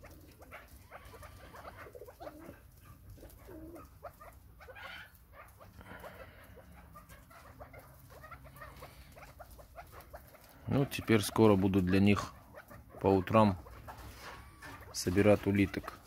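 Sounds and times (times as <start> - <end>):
birds pecking and rustling: 0.0 - 16.0.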